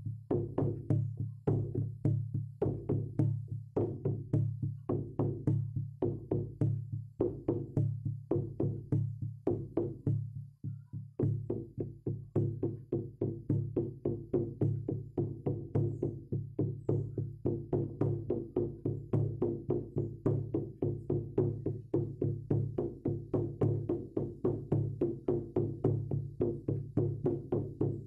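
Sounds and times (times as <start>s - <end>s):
frame drum beating: 0.0s - 28.0s.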